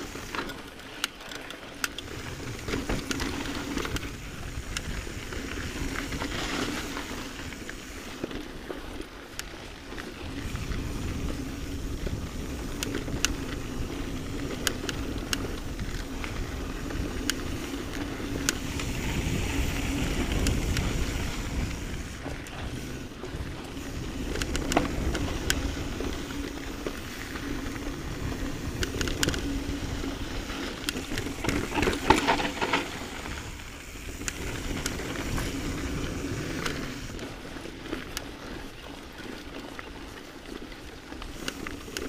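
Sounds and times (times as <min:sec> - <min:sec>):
bike clicking and rattling: 0:00.0 - 0:42.0
tyres rolling over dirt and rock: 0:00.0 - 0:42.0
wind rumbling on microphone: 0:01.9 - 0:39.2.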